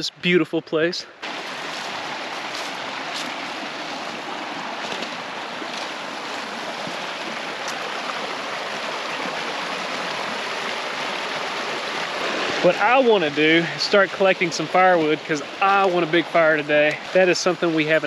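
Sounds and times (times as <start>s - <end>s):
water rushing over rocks: 1.2s - 18.0s.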